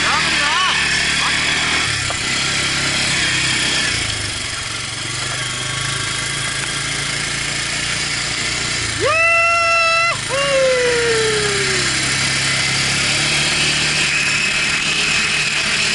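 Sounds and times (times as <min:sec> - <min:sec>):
quad bike engine running: 0:00.0 - 0:15.9.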